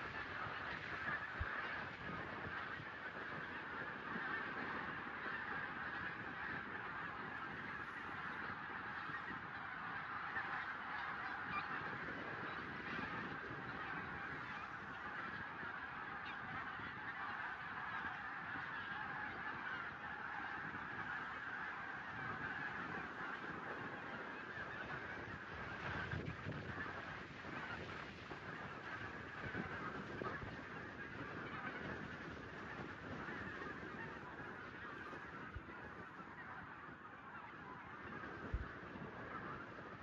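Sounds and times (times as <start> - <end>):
geese honking: 0.0 - 40.0.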